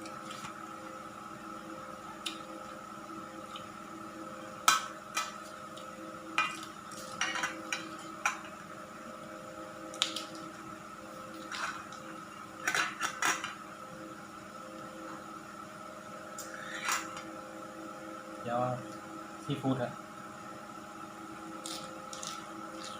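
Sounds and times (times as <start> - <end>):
steady hum: 0.0 - 22.9.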